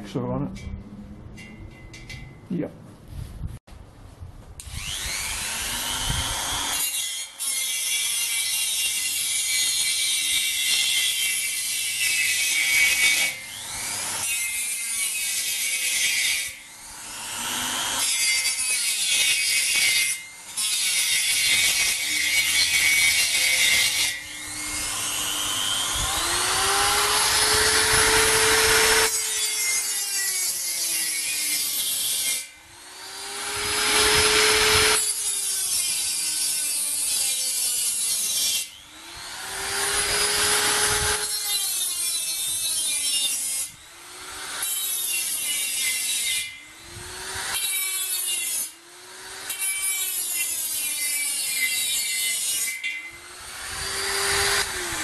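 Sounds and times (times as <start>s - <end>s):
angle grinder cutting steel: 4.6s - 55.0s.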